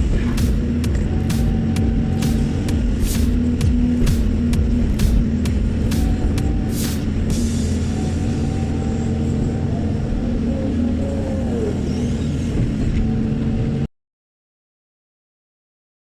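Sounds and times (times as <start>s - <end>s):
diesel engine droning: 0.0s - 13.9s.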